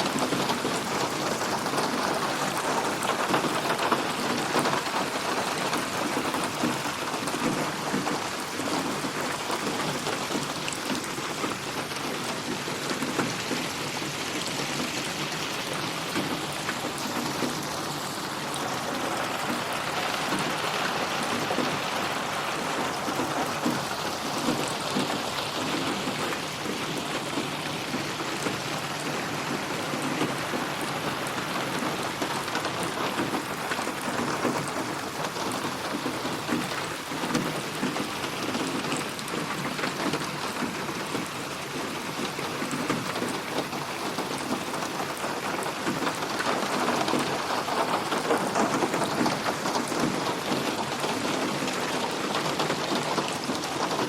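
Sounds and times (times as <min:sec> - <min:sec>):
dense rain falling on a surface: 0:00.0 - 0:54.0.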